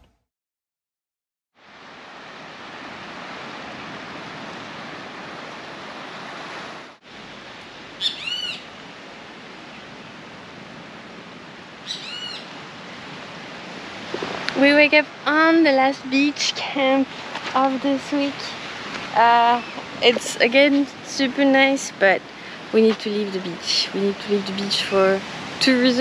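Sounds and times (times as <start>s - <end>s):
ocean surf on rocky beach: 1.6s - 26.0s.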